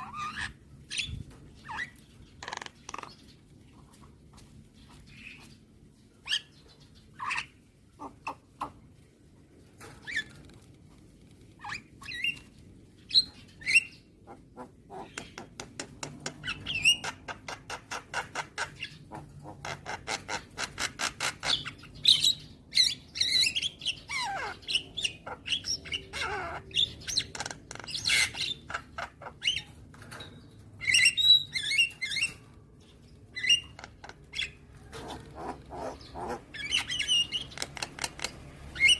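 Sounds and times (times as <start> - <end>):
myna bird singing: 0.0 - 9.1, 9.8 - 38.9.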